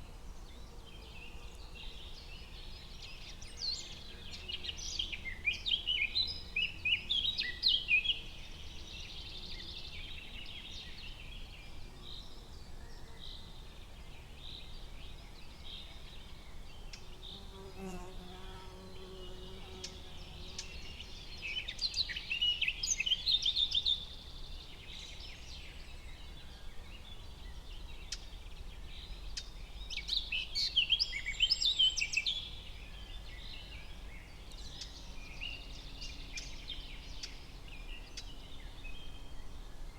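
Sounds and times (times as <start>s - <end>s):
songbirds chirping and singing: 0.5s - 39.9s.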